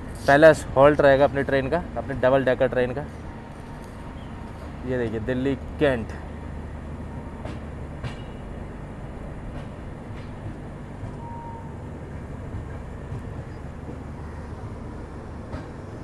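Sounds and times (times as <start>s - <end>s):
train coaches rolling on track: 0.0s - 16.0s.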